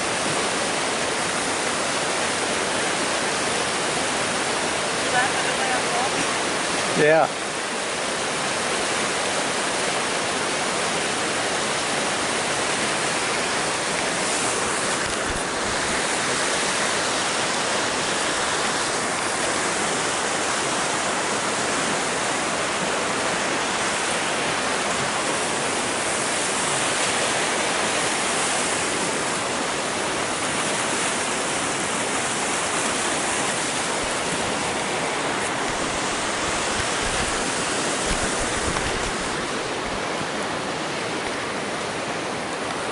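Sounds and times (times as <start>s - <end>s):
waterfall roar: 0.0s - 42.9s.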